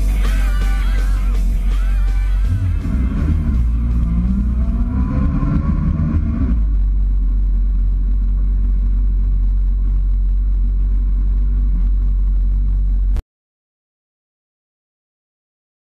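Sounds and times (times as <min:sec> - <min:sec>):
motorcycle engine rumbling: 0:00.0 - 0:13.2.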